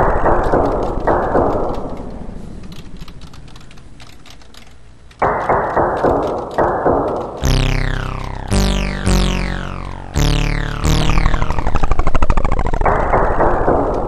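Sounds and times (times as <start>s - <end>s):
rapid keyboard typing: 0.0s - 14.0s.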